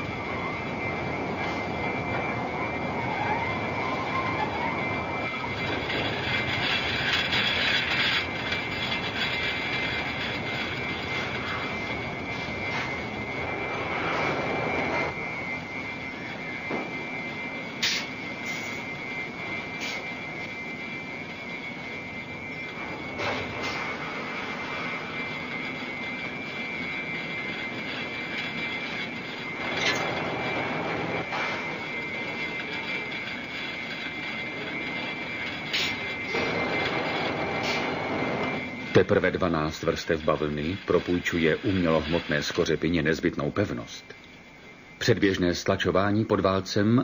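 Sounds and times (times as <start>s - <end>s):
constant high whine: 0.0s - 47.0s
factory machinery whirring: 0.0s - 47.0s.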